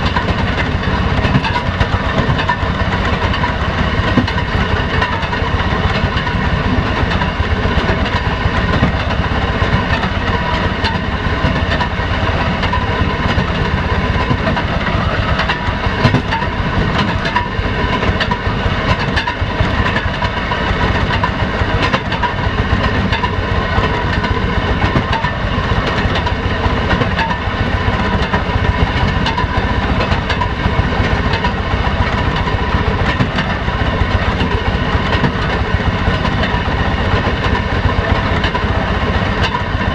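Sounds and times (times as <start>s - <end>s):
rail motor car engine running: 0.0s - 39.9s
wheels clicking on rails: 0.0s - 39.9s.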